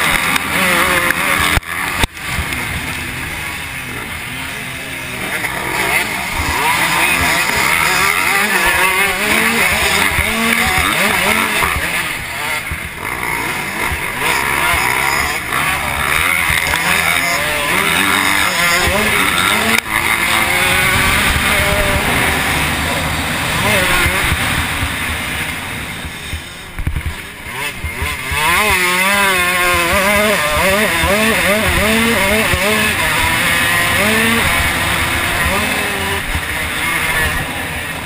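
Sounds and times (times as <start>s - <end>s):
dirt bike engine revving: 0.0s - 38.0s
other dirt bikes nearby: 0.0s - 38.0s.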